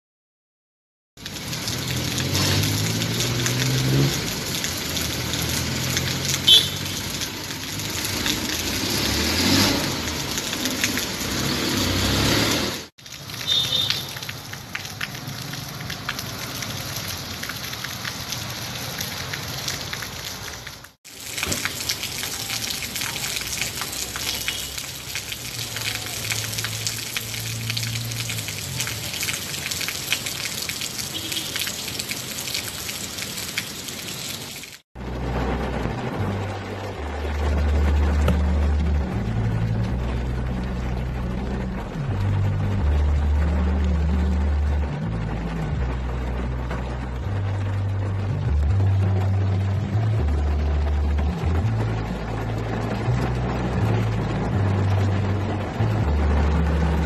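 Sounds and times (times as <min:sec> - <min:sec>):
rain on asphalt: 0:01.2 - 0:57.0
street traffic: 0:01.2 - 0:57.0.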